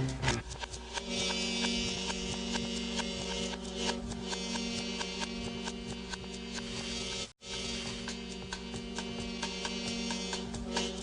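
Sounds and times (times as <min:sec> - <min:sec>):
light ticking beat: 0:00.0 - 0:11.0
music with sustained chords: 0:00.0 - 0:11.0.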